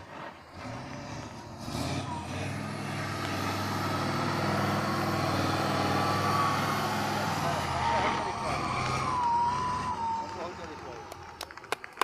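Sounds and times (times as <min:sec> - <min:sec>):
truck engine under load: 0:00.0 - 0:12.0.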